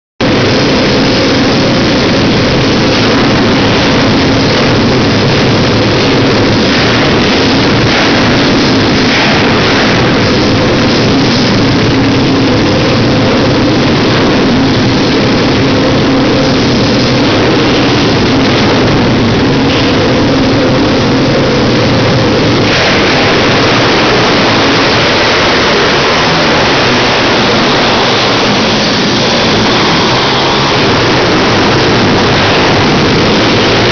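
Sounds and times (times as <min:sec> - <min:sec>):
pit bike engines revving: 0:00.2 - 0:33.9.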